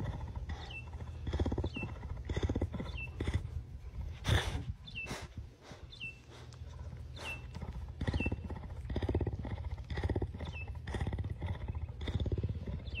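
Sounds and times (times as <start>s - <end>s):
cougar purring: 0.0s - 13.0s.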